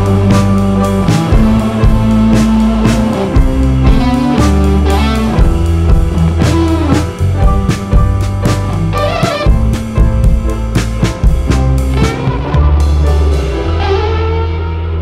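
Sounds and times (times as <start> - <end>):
drum hits: 0.0 - 14.1
guitars over low notes: 0.0 - 15.0.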